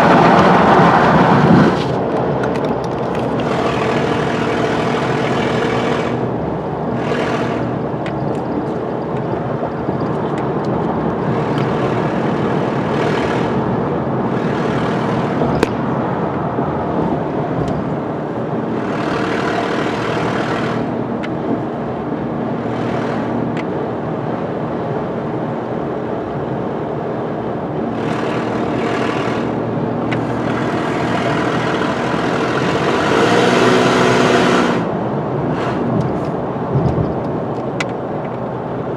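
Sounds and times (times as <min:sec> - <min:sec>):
engine and road noise: 0:00.0 - 0:38.9.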